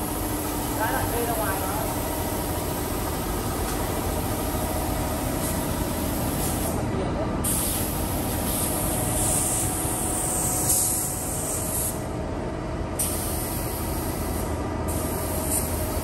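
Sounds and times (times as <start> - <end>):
low workshop rumble: 0.0 - 16.0.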